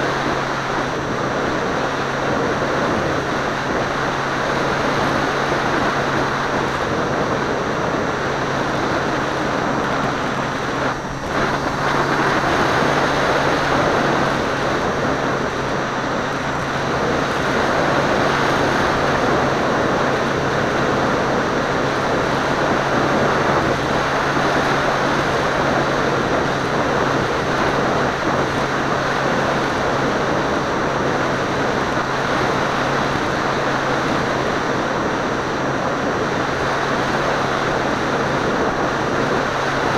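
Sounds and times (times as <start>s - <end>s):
seaplane motor and propeller: 0.0s - 39.9s
wind rushing: 0.0s - 39.9s.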